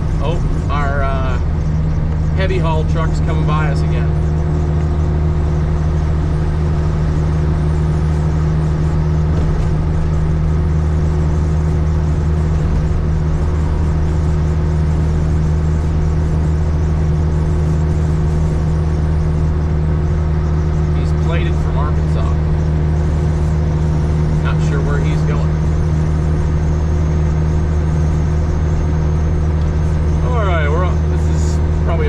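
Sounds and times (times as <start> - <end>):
diesel truck engine drone: 0.0 - 32.0.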